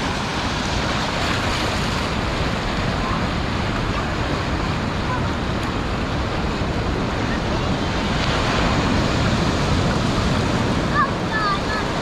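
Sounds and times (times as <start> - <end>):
ocean surf breaking: 0.0 - 12.0
wind on microphone: 0.0 - 12.0.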